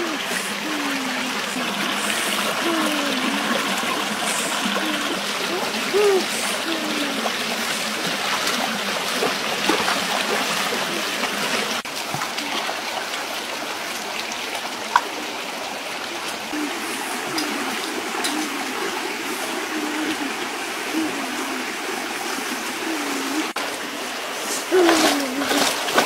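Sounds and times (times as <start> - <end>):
stream running over stones: 0.0 - 26.0.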